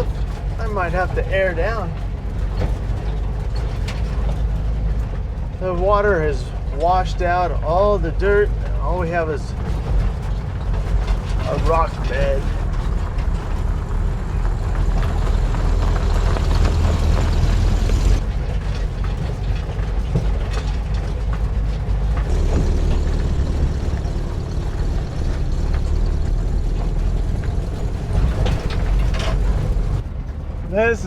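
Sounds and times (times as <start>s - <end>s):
low engine rumble: 0.0s - 31.0s
vehicle body rattling and knocking: 0.0s - 31.0s.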